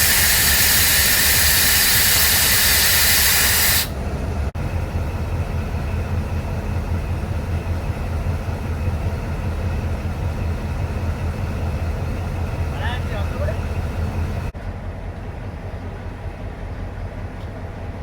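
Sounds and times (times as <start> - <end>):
diesel locomotive engine idling: 0.0 - 18.0.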